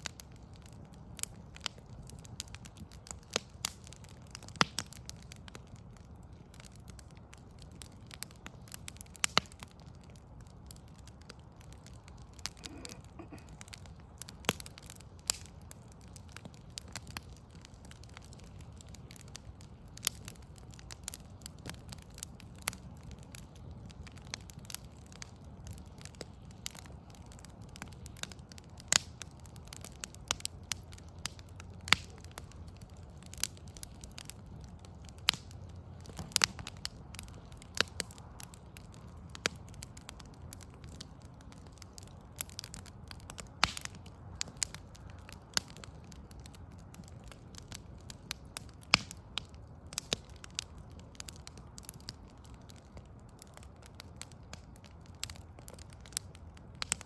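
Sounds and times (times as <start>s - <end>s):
low background rumble: 0.0s - 56.9s
wood fire crackling and popping: 0.0s - 57.0s.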